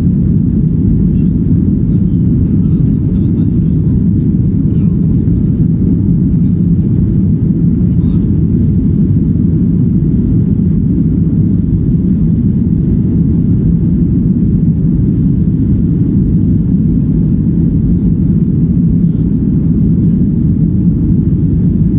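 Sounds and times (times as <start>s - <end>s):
jet engine cabin rumble: 0.0s - 21.9s.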